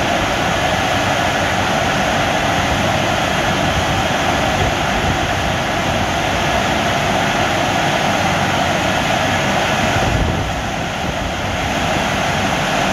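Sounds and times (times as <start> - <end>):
car wash blowers rushing air: 0.0 - 12.9.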